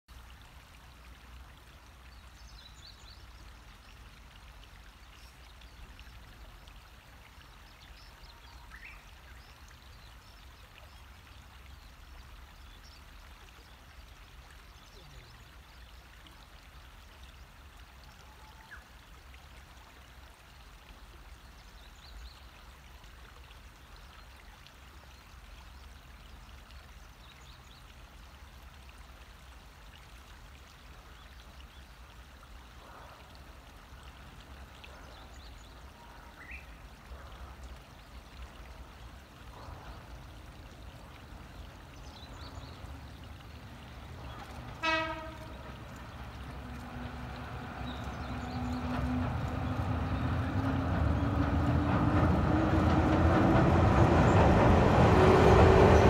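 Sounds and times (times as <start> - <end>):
river water over stones: 0.1 - 56.0.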